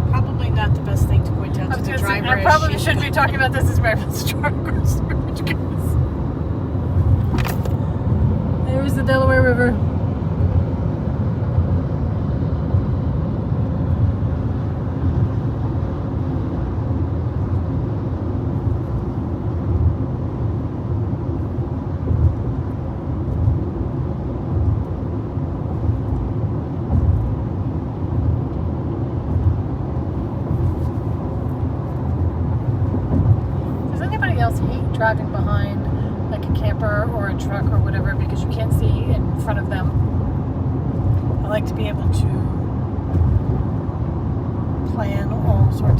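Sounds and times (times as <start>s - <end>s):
car cabin road noise: 0.0s - 45.9s.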